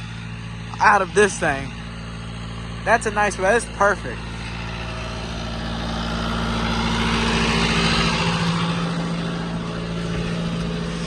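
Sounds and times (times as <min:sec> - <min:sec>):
tractor and hay baler running: 0:00.0 - 0:11.0.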